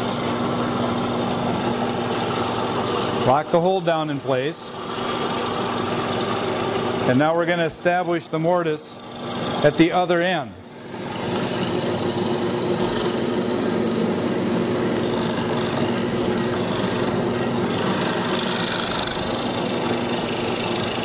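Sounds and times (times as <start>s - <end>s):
chisel boring into wood: 0.0s - 21.0s
drill press motor humming: 0.0s - 21.0s.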